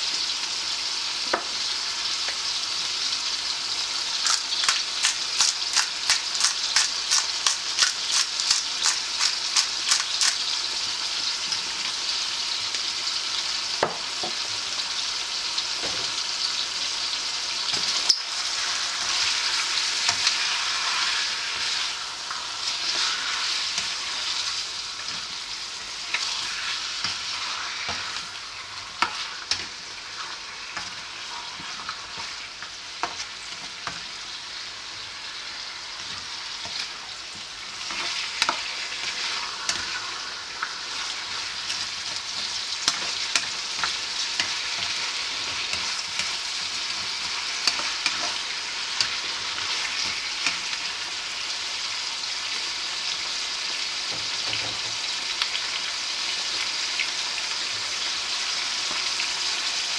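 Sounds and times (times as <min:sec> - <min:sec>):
chicken sizzling in oil: 0:00.0 - 0:59.9.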